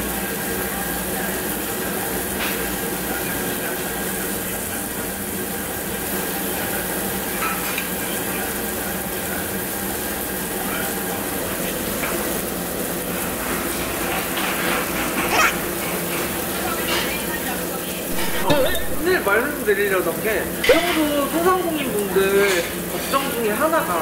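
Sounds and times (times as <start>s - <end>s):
meat sizzling on grill: 0.0s - 24.0s
eating and utensil noises: 0.6s - 24.0s.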